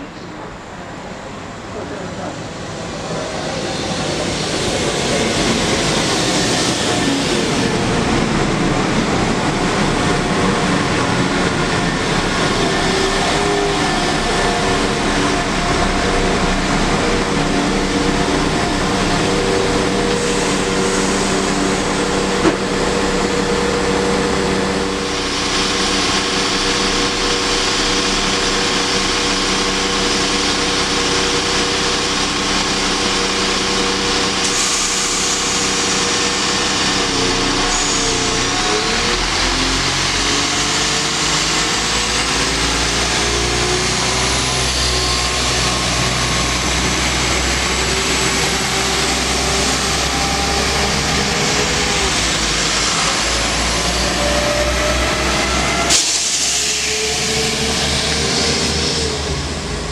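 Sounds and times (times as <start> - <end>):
diesel train engines humming: 0.0 - 59.9.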